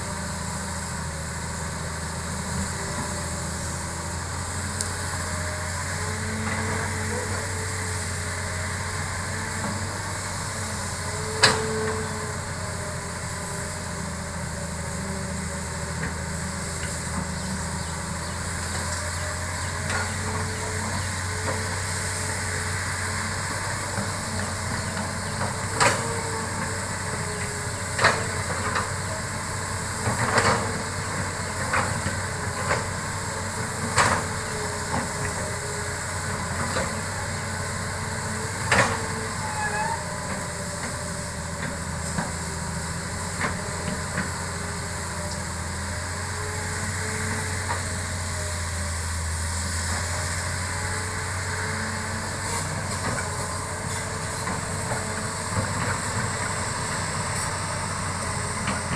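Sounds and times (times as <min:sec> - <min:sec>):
excavator diesel engine: 0:00.0 - 0:58.9.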